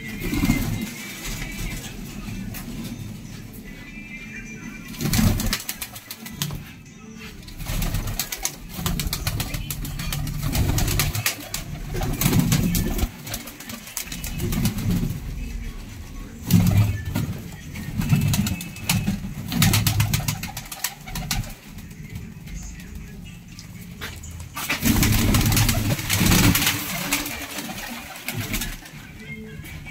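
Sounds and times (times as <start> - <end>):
birds clicking and scuffling: 0.0 - 29.9
pigeons cooing: 0.0 - 29.9.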